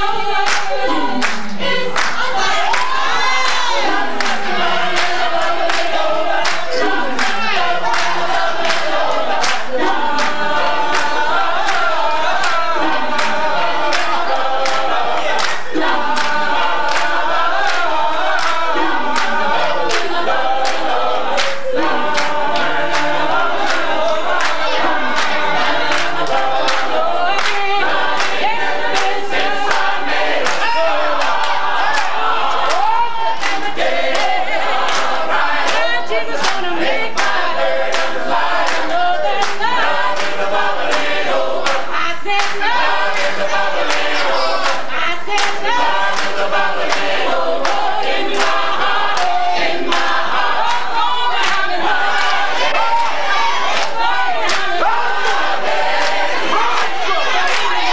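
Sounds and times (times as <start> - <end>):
gospel choir singing: 0.0 - 57.9
rhythmic hand claps: 0.0 - 57.9.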